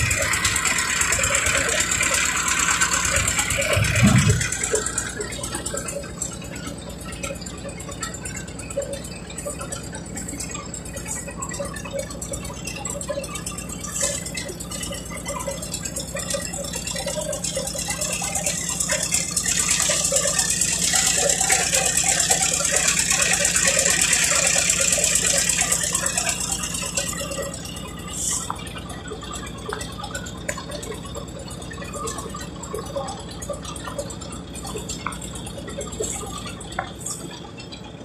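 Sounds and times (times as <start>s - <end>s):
boat engine rattling: 0.0s - 38.0s.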